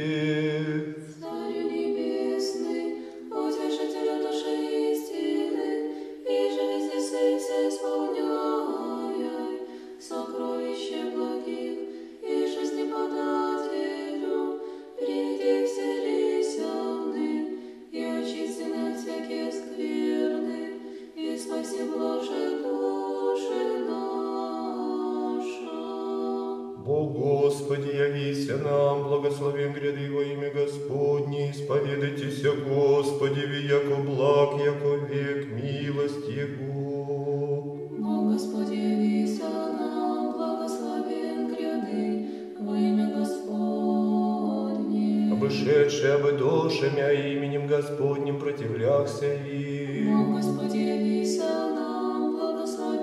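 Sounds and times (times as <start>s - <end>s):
choir of high voices chanting: 0.0s - 53.0s.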